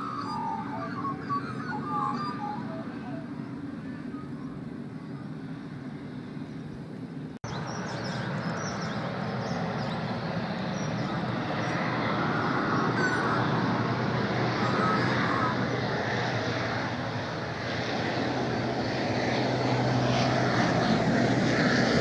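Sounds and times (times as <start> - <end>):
distant turboprop engine: 0.0 - 22.0.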